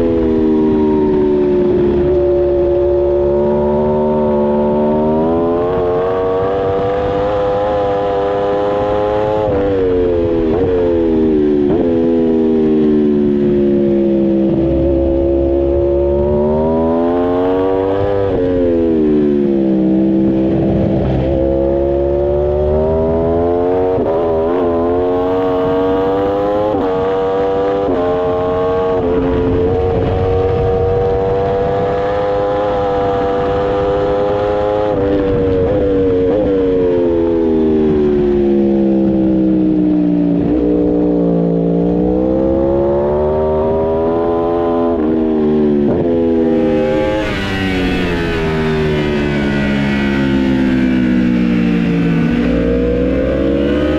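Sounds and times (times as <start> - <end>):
motorcycle engine accelerating: 0.0 - 53.9
wind and road noise: 0.0 - 53.9.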